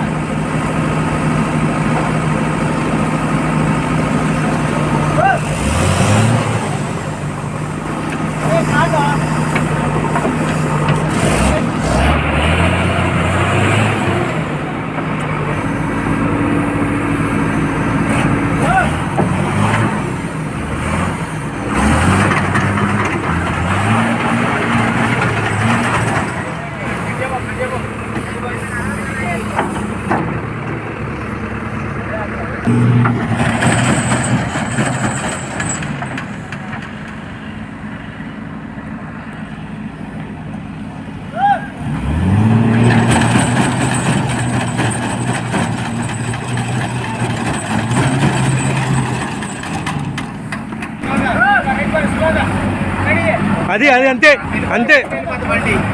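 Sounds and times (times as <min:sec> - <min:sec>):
diesel engines running hard: 0:00.0 - 0:55.9.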